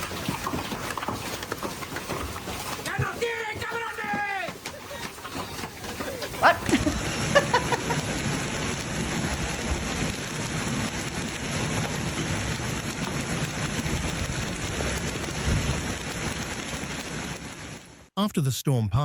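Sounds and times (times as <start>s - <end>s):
rain and hail pelting down: 0.0s - 18.1s.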